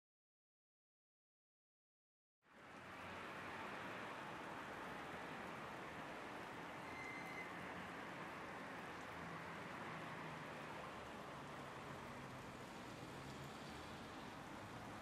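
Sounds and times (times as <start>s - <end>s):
light rain on wet street: 2.4s - 15.0s
distant traffic hum: 2.5s - 15.0s.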